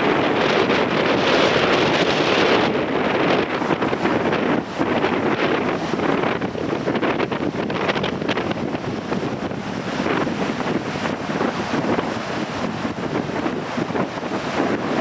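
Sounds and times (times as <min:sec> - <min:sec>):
sea waves breaking on rocks: 0:00.0 - 0:15.0
wind buffeting microphone: 0:00.0 - 0:15.0.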